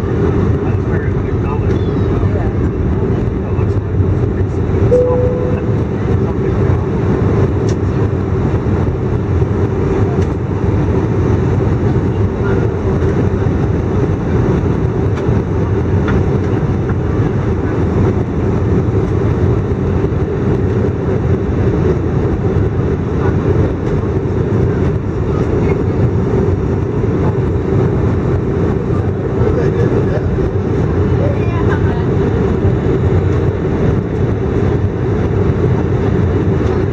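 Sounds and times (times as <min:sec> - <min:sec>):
airliner cabin engine noise: 0:00.0 - 0:36.9.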